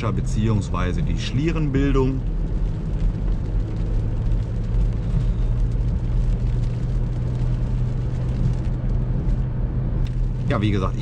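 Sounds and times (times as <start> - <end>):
engine and tyre drone: 0.0 - 11.0.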